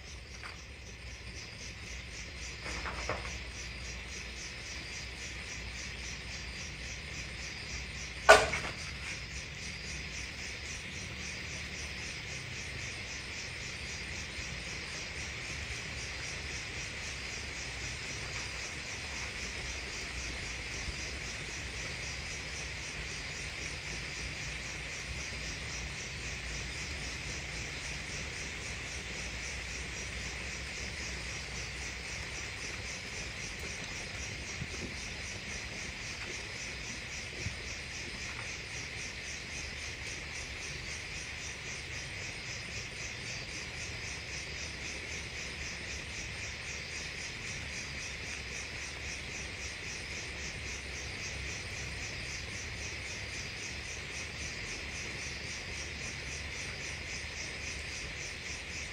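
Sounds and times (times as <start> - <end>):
crickets chirring: 0.0 - 58.9.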